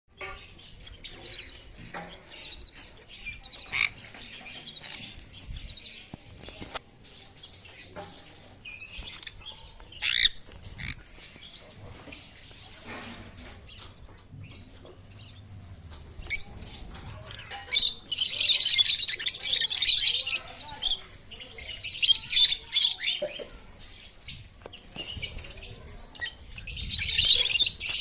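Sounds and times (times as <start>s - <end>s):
lovebirds chirping and twittering: 0.1s - 28.0s.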